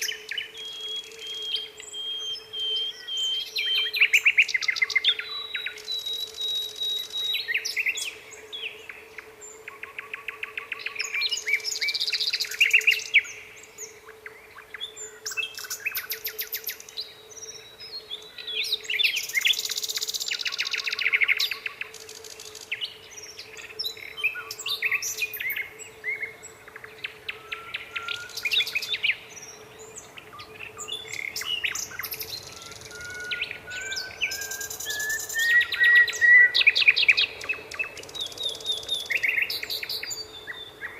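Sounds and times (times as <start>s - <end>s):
nightingale singing: 0.0s - 40.9s.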